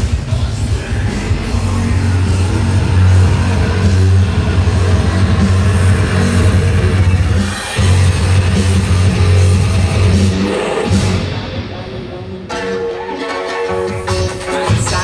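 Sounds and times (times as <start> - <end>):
electronic bass music: 0.0 - 15.0.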